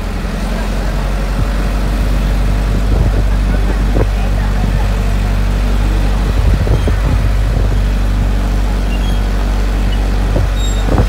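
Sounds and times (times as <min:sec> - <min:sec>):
large vehicle engine running: 0:00.0 - 0:11.0.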